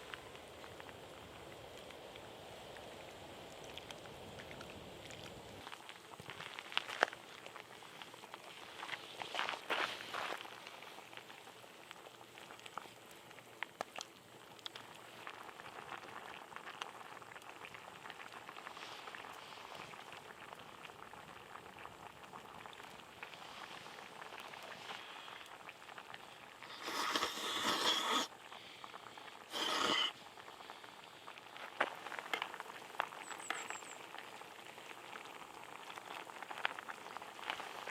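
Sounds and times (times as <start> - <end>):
broth bubbling: 0.0 - 9.4, 10.4 - 33.2, 34.0 - 37.9.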